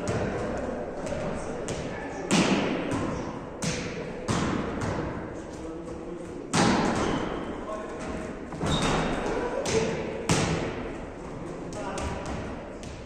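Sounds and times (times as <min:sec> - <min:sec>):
volleyball slaps echoing: 0:00.0 - 0:13.0.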